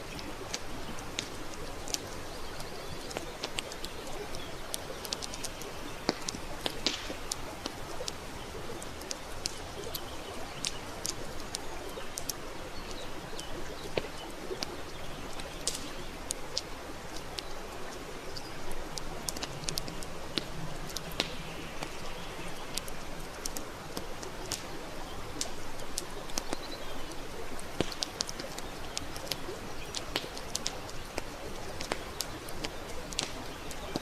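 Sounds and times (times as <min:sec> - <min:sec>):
campfire crackling and popping: 0:00.0 - 0:34.0
steady fire hiss: 0:00.0 - 0:34.0.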